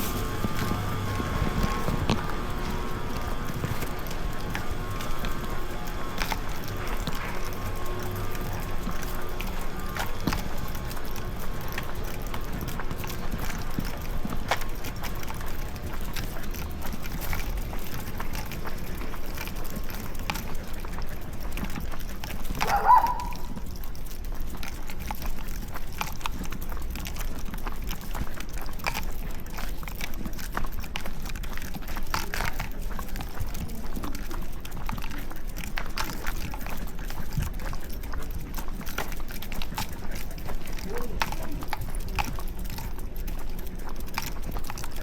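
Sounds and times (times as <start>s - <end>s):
footsteps clicks and scuffs: 0.0s - 45.0s.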